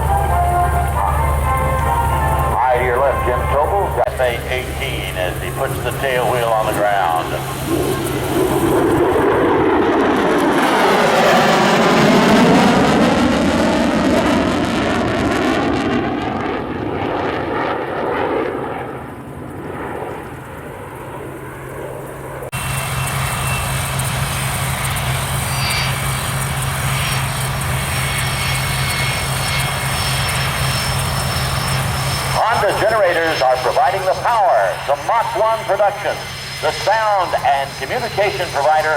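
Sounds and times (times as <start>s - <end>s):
aircraft engine droning past: 0.0s - 38.9s
steady engine drone: 0.0s - 38.9s.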